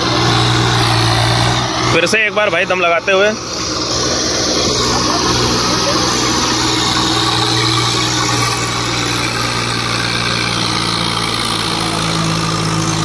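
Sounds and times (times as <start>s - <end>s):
tractor diesel engine straining: 0.0s - 13.0s.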